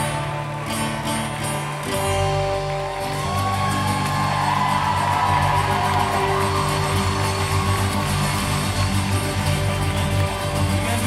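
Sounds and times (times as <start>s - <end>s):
guitar-led band music: 0.0s - 11.0s.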